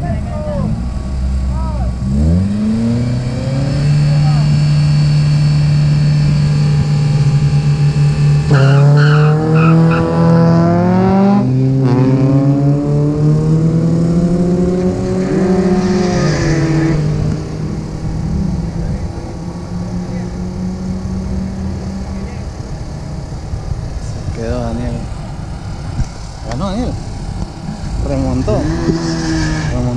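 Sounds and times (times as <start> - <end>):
car engines revving and accelerating: 0.0 - 29.9.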